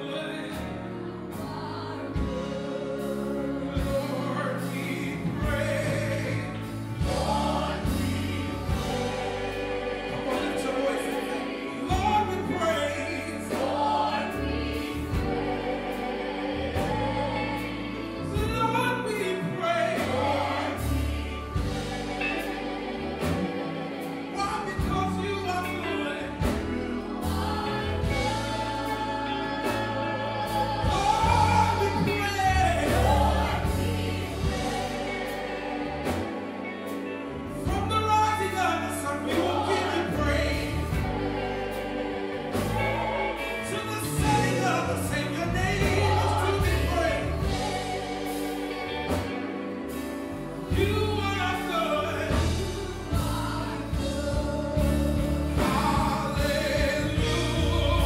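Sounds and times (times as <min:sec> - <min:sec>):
choir singing gospel music: 0:00.0 - 0:58.0
sustained bass line: 0:00.6 - 0:58.0.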